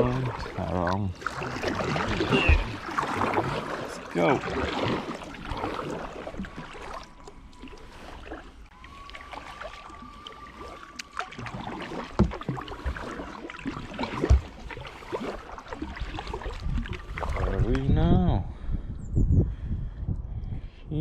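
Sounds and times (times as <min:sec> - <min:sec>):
kayak paddle splashing in water: 0:00.0 - 0:17.8.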